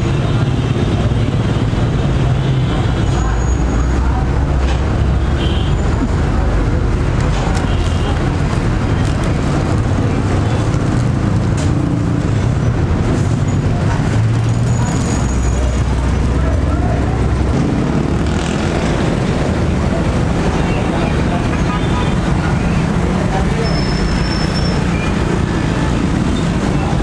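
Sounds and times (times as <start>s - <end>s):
faint voices: 0.0s - 27.0s
vehicle engines rumbling: 0.0s - 27.0s.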